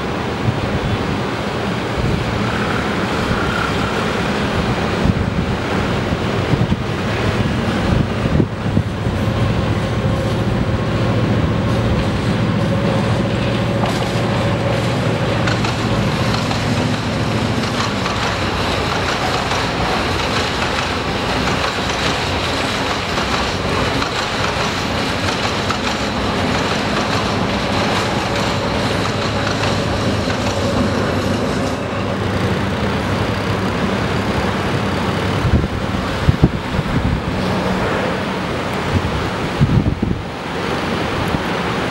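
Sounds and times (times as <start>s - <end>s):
engine hum: 0.0s - 41.9s
train wheels rumbling on rails: 0.0s - 41.9s.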